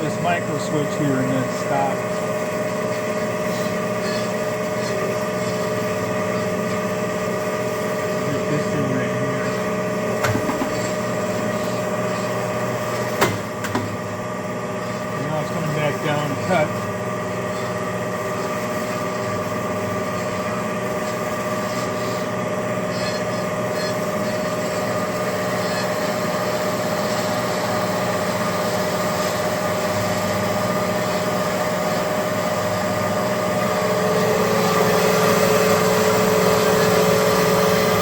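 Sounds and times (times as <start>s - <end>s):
band saw running: 0.0s - 38.0s.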